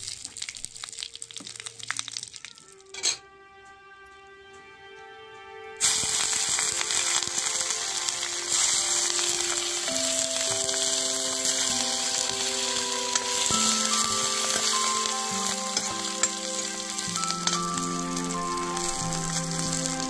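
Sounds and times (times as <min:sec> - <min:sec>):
hot oil sizzling: 0:00.0 - 0:02.5, 0:05.8 - 0:20.0
background music: 0:02.6 - 0:20.0.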